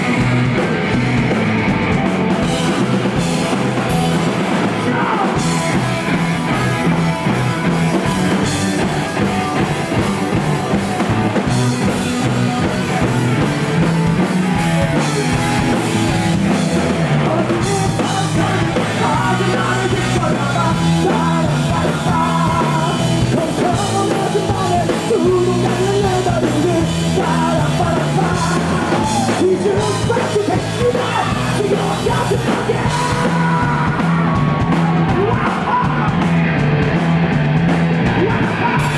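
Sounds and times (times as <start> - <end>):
drum kit with cymbals: 0.0 - 38.9
electric guitars: 0.0 - 38.9.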